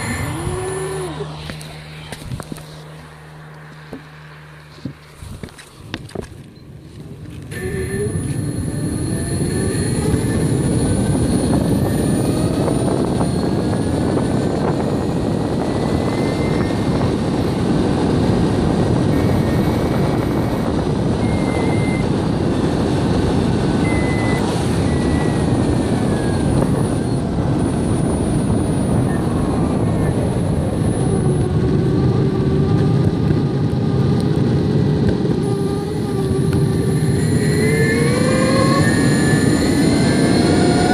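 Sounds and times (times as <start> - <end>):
electric motor whine: 0.0 - 40.9
rushing wind: 0.0 - 40.9
wheels rumbling on rough road: 0.0 - 40.9.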